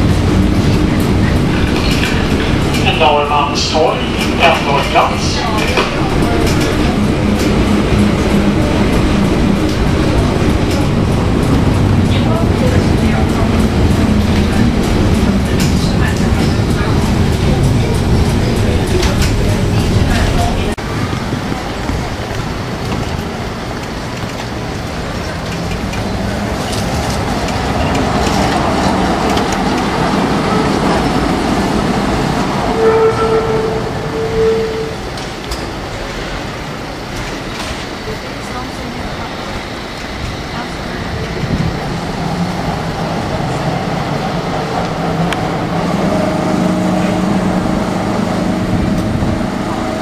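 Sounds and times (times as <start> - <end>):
tram motors humming: 0.0 - 50.0
tram wheels clicking on rails: 0.0 - 50.0.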